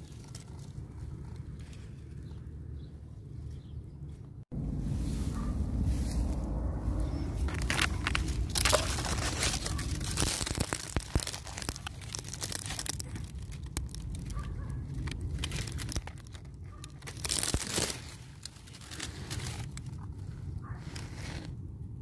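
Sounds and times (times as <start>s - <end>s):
plant leaves rustling and crackling: 0.0s - 2.6s, 4.6s - 21.6s
low rumble: 0.0s - 22.0s.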